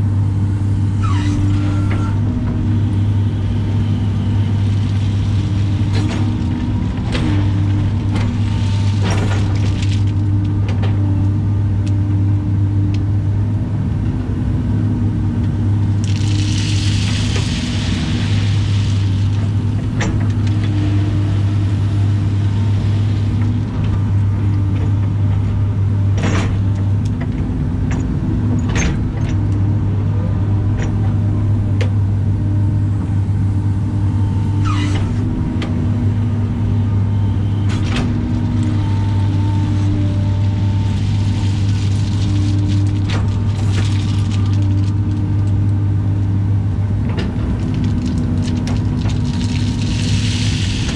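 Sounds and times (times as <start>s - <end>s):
excavator diesel engine droning: 0.0s - 50.9s.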